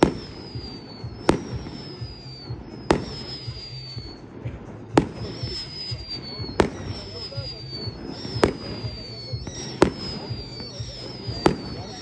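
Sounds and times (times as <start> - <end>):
falling firework whistle: 0.0 - 12.0
fireworks bangs: 0.0 - 12.0.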